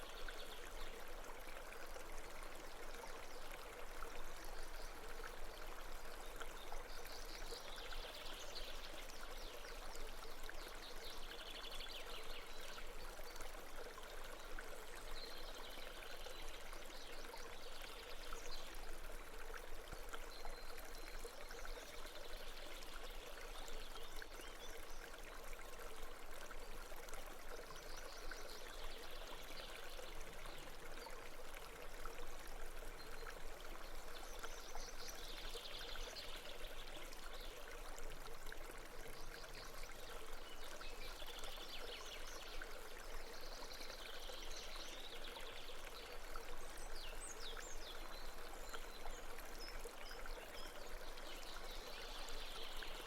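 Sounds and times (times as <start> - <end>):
water flowing over rocks: 0.0 - 53.0.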